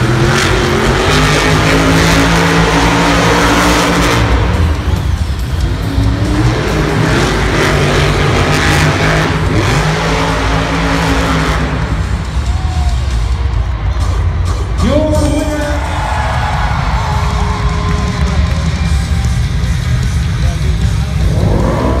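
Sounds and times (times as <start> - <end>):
truck engine revving: 0.0 - 15.3, 16.3 - 22.0
arena music: 0.0 - 22.0.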